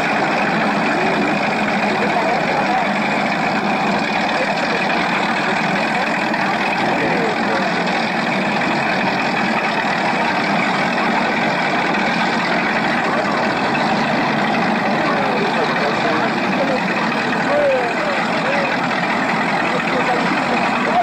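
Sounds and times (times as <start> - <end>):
speedboat engines idling: 0.0 - 21.0.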